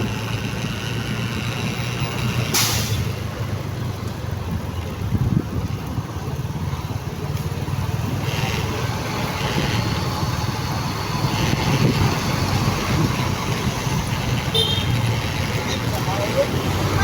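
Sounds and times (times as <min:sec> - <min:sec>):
motorcycle engine running: 0:00.0 - 0:17.0
road traffic noise: 0:00.0 - 0:17.0.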